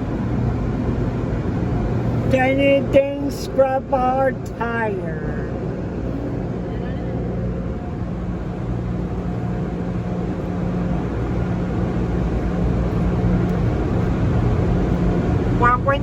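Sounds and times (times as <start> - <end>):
car wash machinery rumbling: 0.0 - 16.0.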